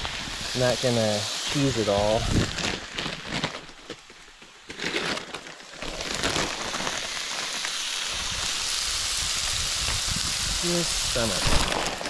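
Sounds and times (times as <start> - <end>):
food sizzling on a griddle: 0.0 - 4.8, 5.5 - 12.0.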